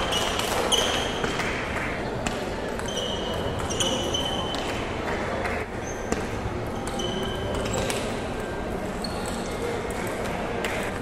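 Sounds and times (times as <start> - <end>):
chatter in a large hall: 0.0 - 11.0.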